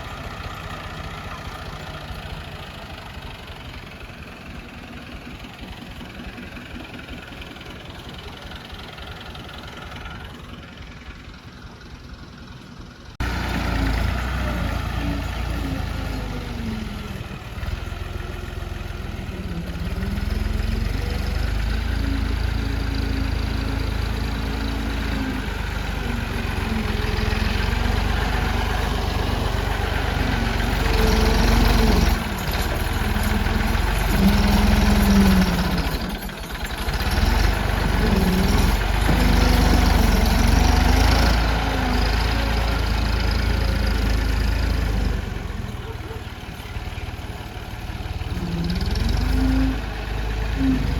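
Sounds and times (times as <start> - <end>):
diesel tractor engine revving: 0.0 - 50.9.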